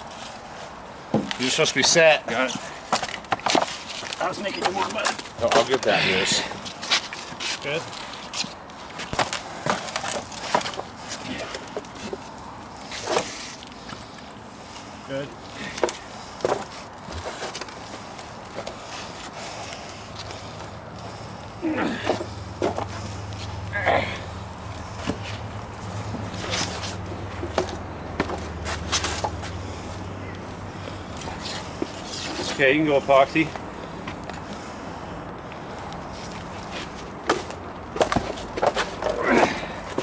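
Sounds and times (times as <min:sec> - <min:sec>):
concrete balusters knocking and scraping: 0:01.1 - 0:14.9, 0:15.6 - 0:34.7, 0:35.5 - 0:40.0.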